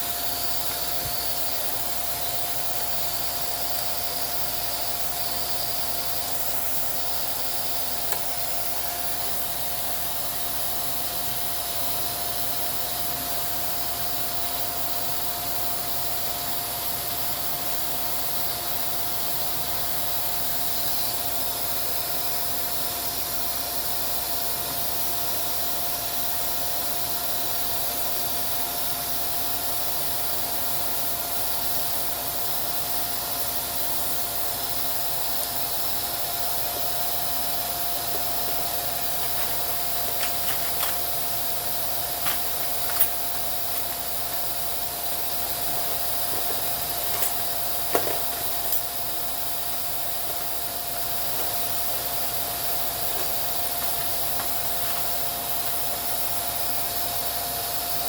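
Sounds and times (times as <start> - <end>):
small motor running: 0.0 - 22.9, 31.1 - 58.0.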